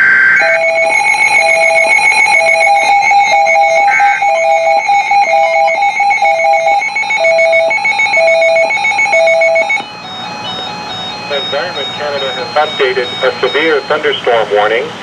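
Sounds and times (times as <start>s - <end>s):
lower repeating beep: 0.0s - 14.6s
fast-pulsing high beep: 0.4s - 14.7s.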